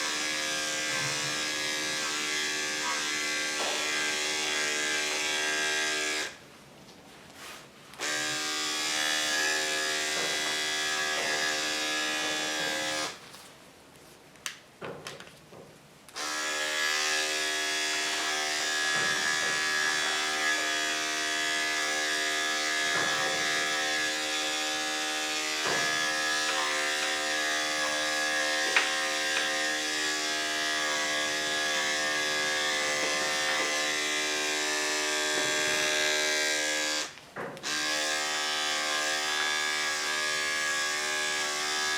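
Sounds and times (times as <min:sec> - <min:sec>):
electric clippers humming: 0:00.0 - 0:06.4, 0:08.0 - 0:13.2, 0:16.1 - 0:41.9.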